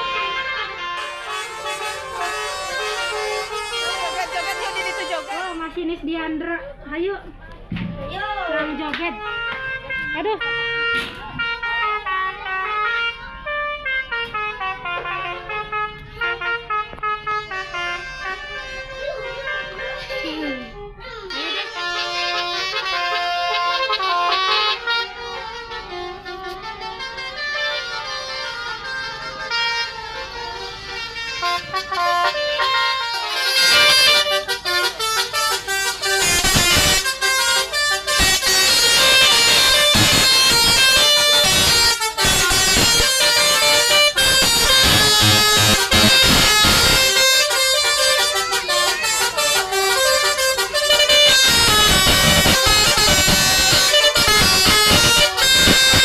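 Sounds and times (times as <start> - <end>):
bus horns playing a tune: 0.0 - 5.9, 8.7 - 56.0.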